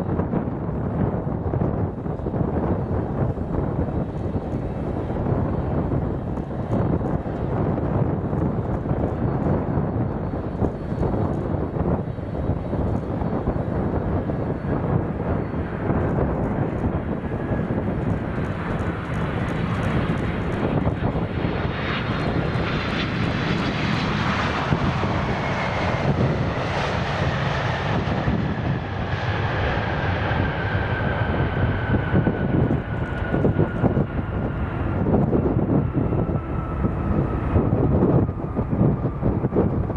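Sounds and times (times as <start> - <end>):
jet airliner engine roar: 0.0 - 39.9
jet engine whine: 0.0 - 39.9
wind rumbling on microphone: 0.0 - 39.9.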